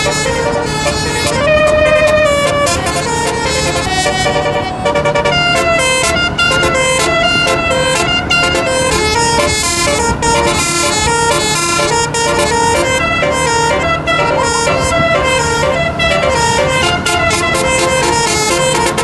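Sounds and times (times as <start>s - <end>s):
musical bus horn melody: 0.0s - 19.0s.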